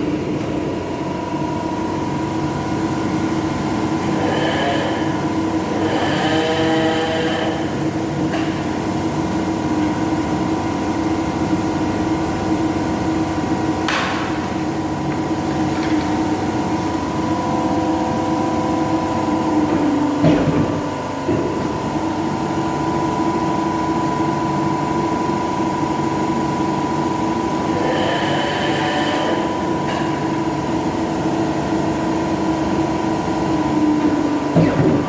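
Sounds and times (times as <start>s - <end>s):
machine humming: 0.0s - 35.0s.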